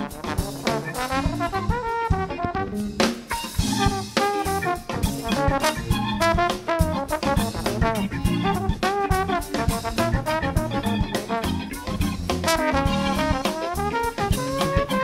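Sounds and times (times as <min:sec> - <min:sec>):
brass horn playing: 0:00.0 - 0:15.0
busy drum kit: 0:00.0 - 0:15.0.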